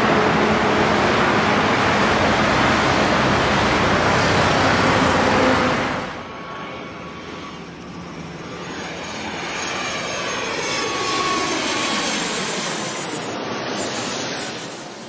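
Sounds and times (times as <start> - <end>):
jet aircraft passing overhead: 0.0 - 15.0.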